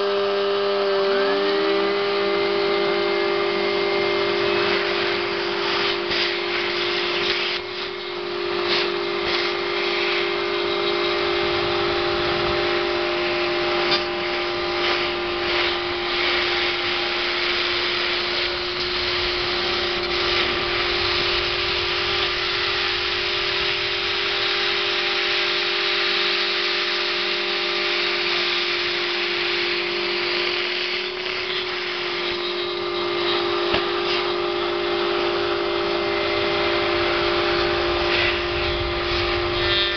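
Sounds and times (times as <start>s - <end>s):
cutter hissing through plastic: 0.0s - 39.9s
router spindle high hum: 0.0s - 39.9s.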